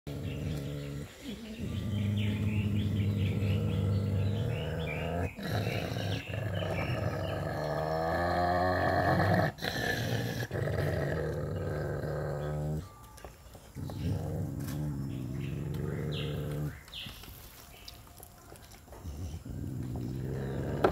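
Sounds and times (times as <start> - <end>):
dog growling low: 0.1 - 12.9, 13.8 - 16.8, 19.0 - 20.9.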